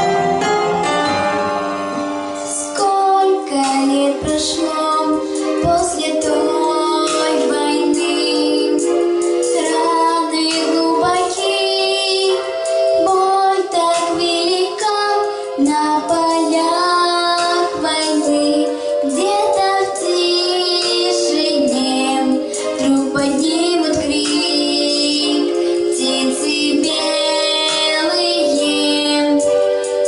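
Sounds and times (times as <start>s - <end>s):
instrumental backing track: 0.0s - 30.0s
girl singing: 2.5s - 29.6s.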